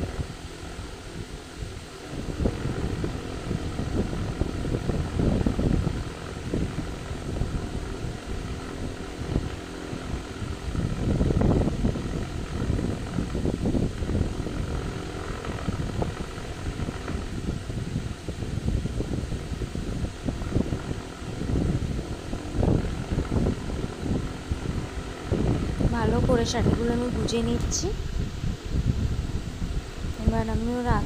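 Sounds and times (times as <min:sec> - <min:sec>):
air buffeting microphone: 0:00.0 - 0:31.0.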